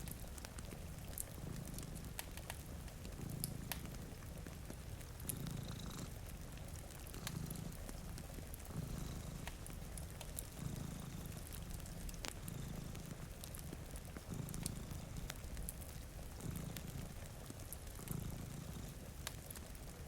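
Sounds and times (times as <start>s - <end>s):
cat purring: 0.0s - 20.0s
fireplace crackling and popping: 0.0s - 20.0s.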